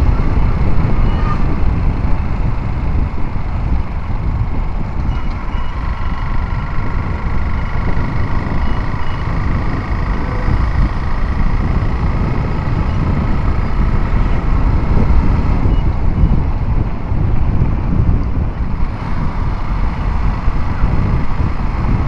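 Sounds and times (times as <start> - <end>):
motorcycle running: 0.0 - 22.0
wind buffeting microphone: 0.0 - 22.0.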